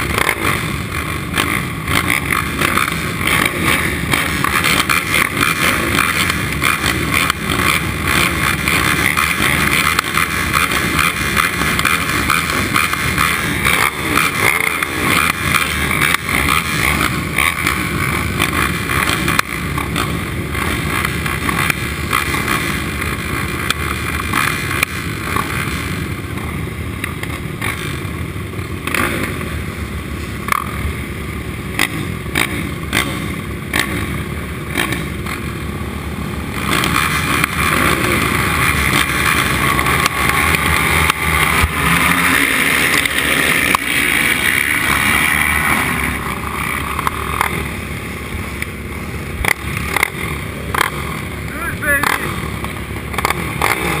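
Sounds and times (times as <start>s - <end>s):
atv engines idling with throttle blips: 0.0s - 54.0s
quads launching at full throttle: 0.0s - 54.0s.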